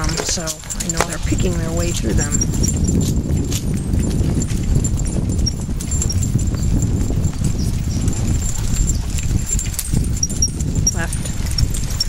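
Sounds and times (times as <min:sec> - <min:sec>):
cart wheels rumbling on concrete: 0:00.0 - 0:12.0
small bells tinkling: 0:00.0 - 0:12.0.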